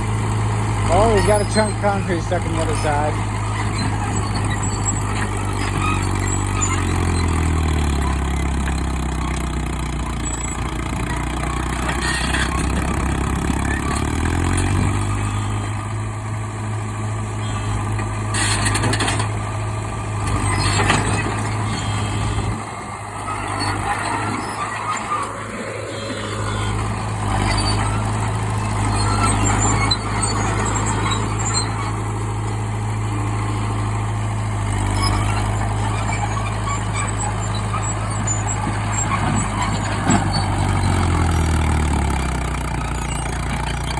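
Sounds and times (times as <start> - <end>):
bulldozer engine running: 0.0 - 43.9.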